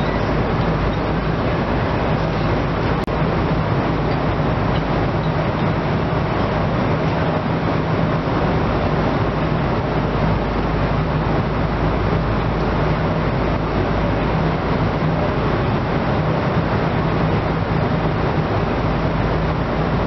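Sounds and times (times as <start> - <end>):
airliner cabin engine and airflow rush: 0.0 - 20.0.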